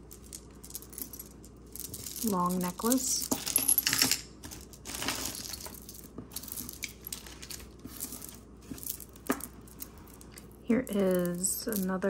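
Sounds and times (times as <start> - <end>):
glass beads clicking: 0.0 - 12.0.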